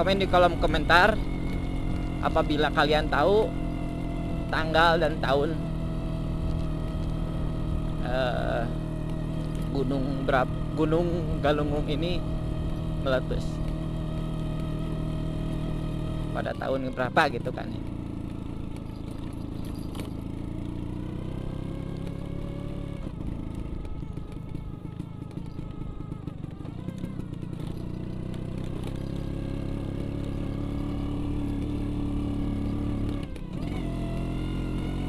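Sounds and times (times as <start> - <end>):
scooter engine revving: 0.0 - 35.0.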